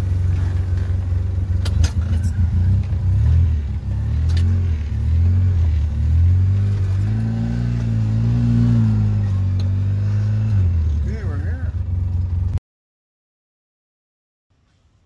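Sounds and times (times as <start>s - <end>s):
atv engine running: 0.0s - 12.6s.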